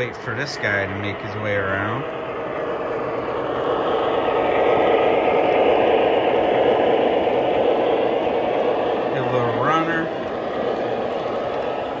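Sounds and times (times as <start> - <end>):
model train rumbling: 0.0 - 12.0.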